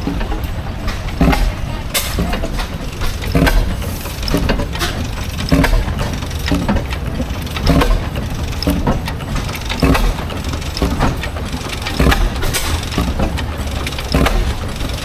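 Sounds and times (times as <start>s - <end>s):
antique engine clattering: 0.0s - 15.0s
low engine thump: 0.0s - 15.0s.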